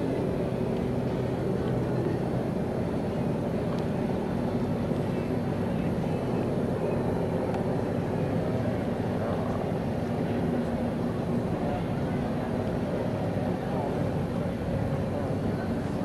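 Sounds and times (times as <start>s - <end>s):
distant engine drone: 0.0s - 16.0s
noisy outdoor background: 0.0s - 16.0s.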